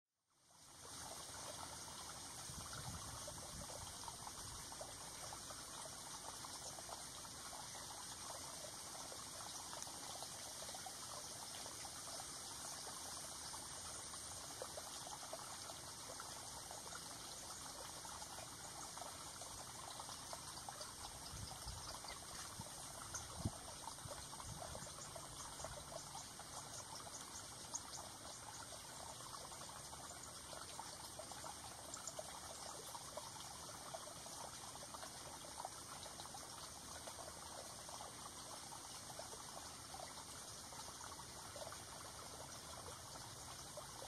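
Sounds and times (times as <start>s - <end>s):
trickle of running water: 0.3s - 44.0s.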